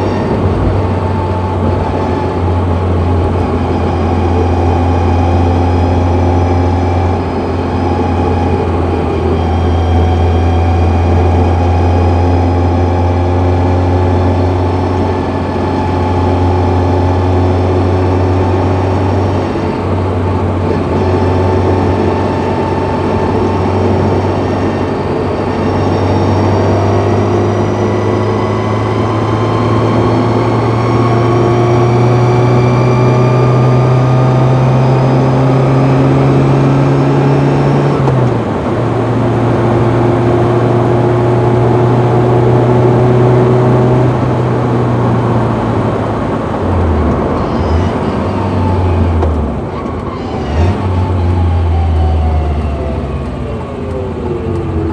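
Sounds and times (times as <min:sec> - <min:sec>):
car engine drone: 0:00.0 - 0:54.9
gearbox whining: 0:00.0 - 0:54.9.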